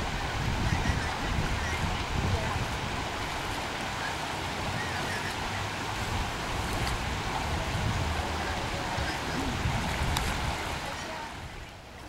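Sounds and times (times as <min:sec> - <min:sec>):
floodwater rushing: 0:00.0 - 0:12.0
low uneven rumble: 0:02.1 - 0:12.0.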